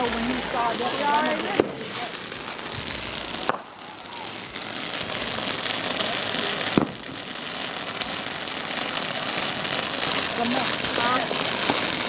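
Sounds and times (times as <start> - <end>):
fireworks crackling and hissing: 0.0 - 12.0
fireworks sharp bangs: 0.0 - 12.0.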